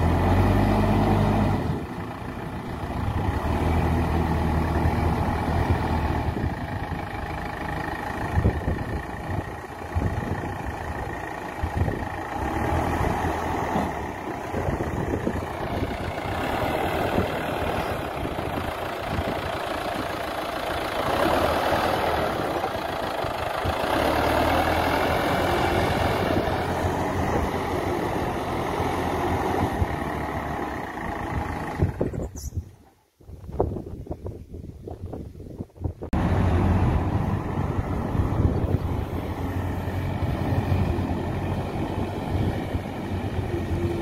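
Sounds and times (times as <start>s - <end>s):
diesel engines under load: 0.0s - 44.0s.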